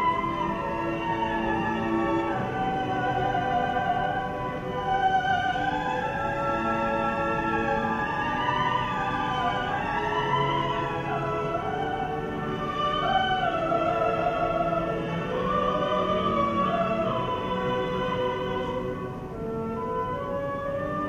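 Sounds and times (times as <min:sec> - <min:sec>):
operatic singing: 0:00.0 - 0:19.4.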